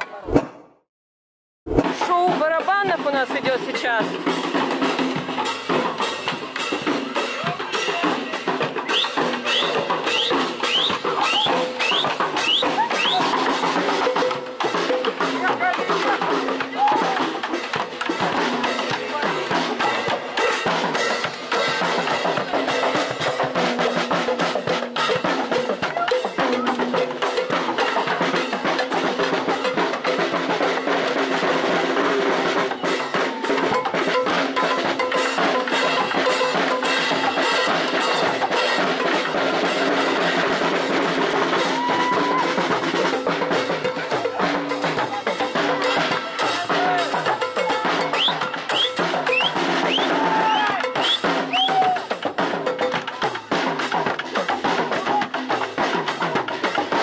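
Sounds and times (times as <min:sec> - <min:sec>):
drumline playing: 0:01.7 - 0:57.0.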